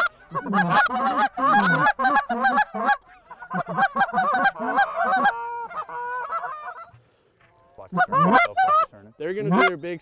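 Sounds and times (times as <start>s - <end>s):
goose call honks and clucks: 0.0s - 7.0s, 7.8s - 10.0s.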